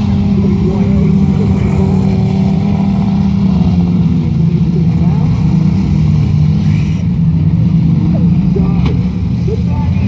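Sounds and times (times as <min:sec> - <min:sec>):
car engines running loudly: 0:00.0 - 0:10.0.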